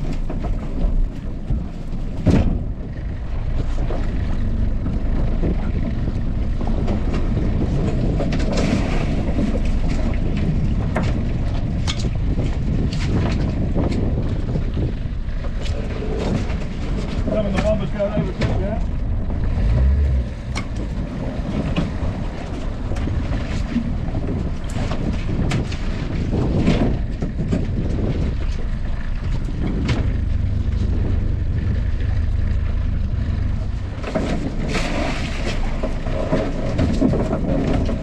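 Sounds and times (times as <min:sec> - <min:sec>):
water noise: 0:00.0 - 0:38.0
wind: 0:00.0 - 0:38.0.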